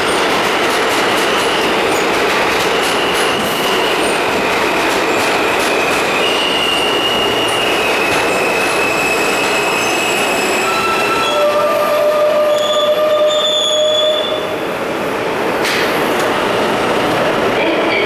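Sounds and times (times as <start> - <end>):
subway train wheels squealing: 0.0 - 18.0.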